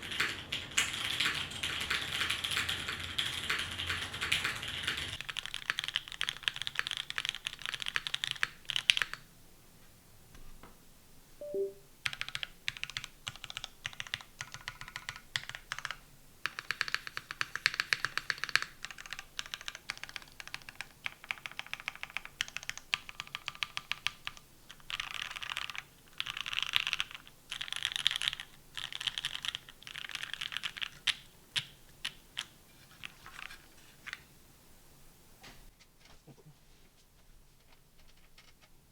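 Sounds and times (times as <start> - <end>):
mechanical keyboard typing: 0.0 - 9.2, 11.5 - 33.6, 38.0 - 38.7.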